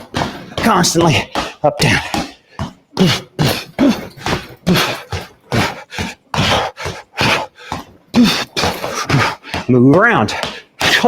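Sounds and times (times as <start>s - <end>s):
punches hitting punching bag: 0.0s - 11.0s.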